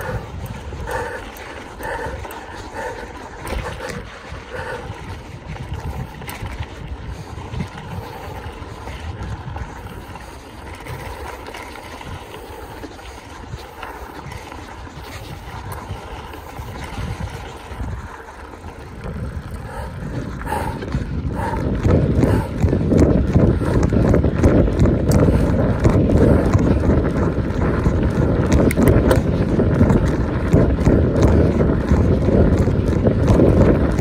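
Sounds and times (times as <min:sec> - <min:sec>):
bike rumbling over rough ground: 0:00.0 - 0:34.0
wind buffeting microphone: 0:00.0 - 0:34.0.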